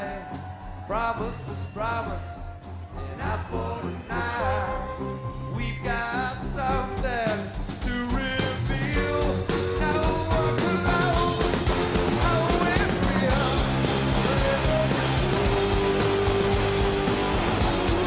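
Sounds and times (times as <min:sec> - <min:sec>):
person singing: 0:00.0 - 0:17.2
bass guitar: 0:00.0 - 0:18.0
drums: 0:00.0 - 0:18.0
electric guitars: 0:00.0 - 0:18.0.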